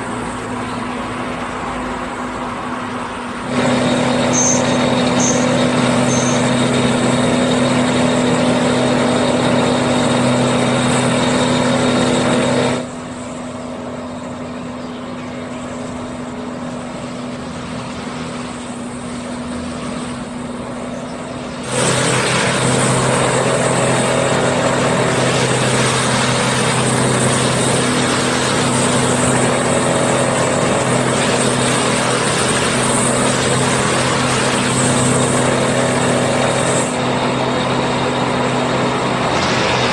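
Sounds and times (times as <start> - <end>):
diesel engine running: 0.0 - 39.9
distant outdoor noise: 0.0 - 39.9.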